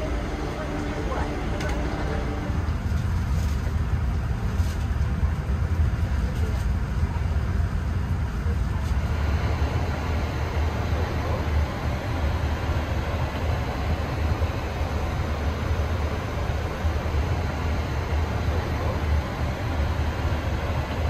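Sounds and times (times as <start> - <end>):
cabin low rumble: 0.0 - 21.0.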